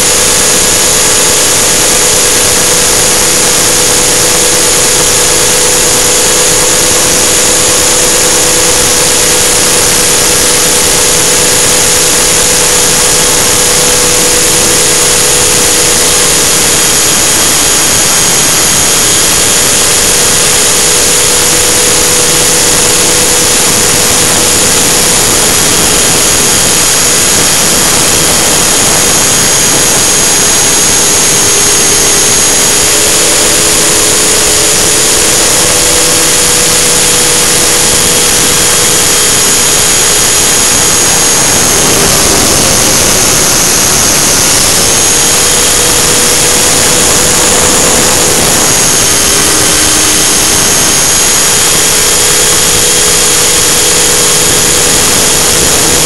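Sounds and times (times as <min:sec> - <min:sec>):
high whine: 0:00.0 - 0:56.0
model helicopter rotor drone: 0:00.0 - 0:56.0.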